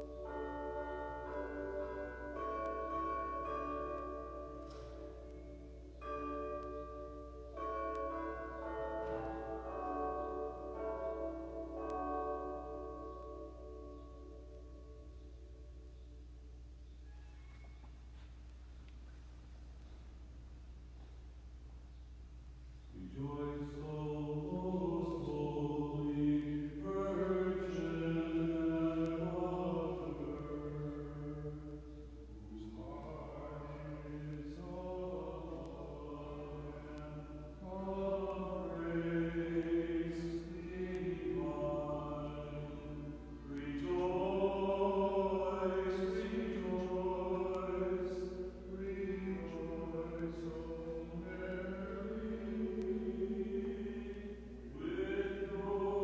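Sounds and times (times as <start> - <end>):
unaccompanied choral chant: 0.0 - 14.0, 23.0 - 56.0.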